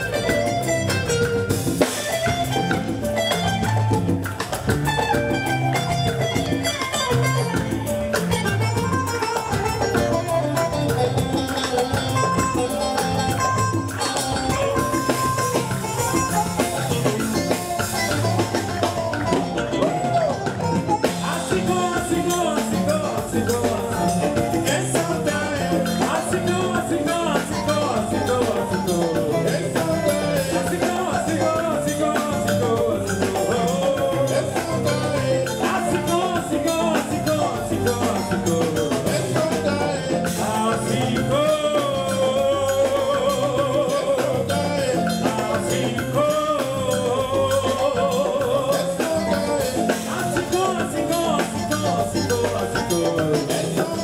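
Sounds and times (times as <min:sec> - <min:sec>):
live salsa band playing: 0:00.0 - 0:54.0
person singing: 0:05.0 - 0:54.0.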